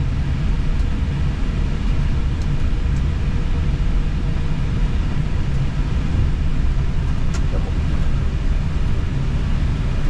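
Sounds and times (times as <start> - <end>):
low rumble in airliner cockpit: 0.0 - 10.0.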